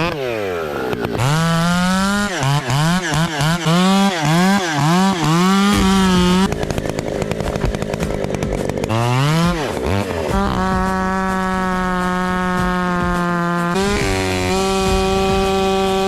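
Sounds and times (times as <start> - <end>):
chainsaw cutting wood: 0.0 - 16.0
chainsaw revving: 0.0 - 16.0.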